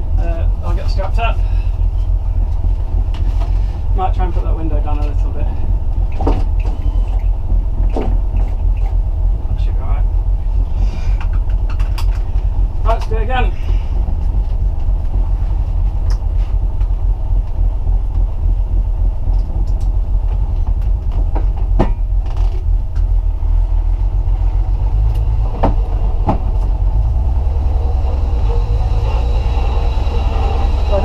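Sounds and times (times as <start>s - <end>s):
car engine rumble from cabin: 0.0s - 31.0s.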